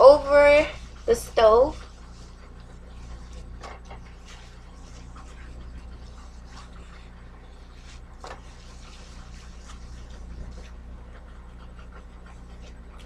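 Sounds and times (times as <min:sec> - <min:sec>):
low hum: 0:00.0 - 0:13.0
wet cloth wiping stovetop: 0:00.0 - 0:13.0.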